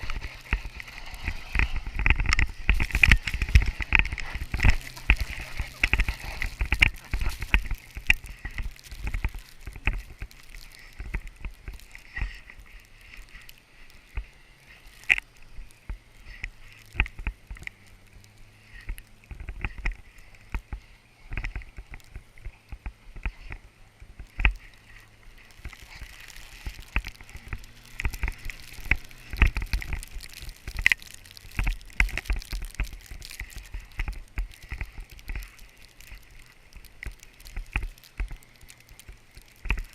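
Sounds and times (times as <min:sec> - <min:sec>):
tyres churning through snow: 0:00.0 - 0:39.9.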